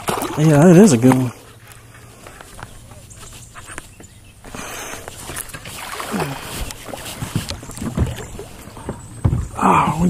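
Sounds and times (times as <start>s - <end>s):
water splashing against kayak: 0.0s - 10.0s.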